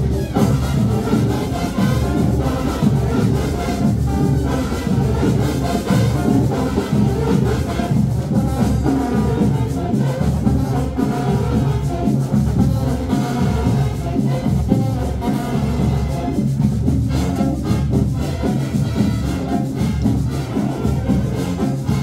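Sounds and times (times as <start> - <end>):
marching band brass: 0.0 - 22.0
marching band drums: 0.0 - 22.0.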